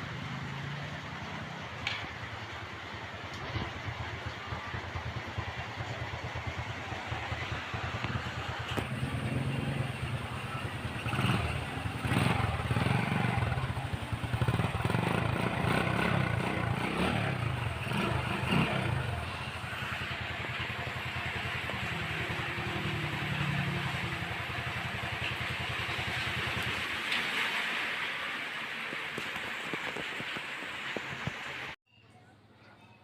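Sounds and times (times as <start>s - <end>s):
motorcycle engine revving: 0.0s - 27.1s.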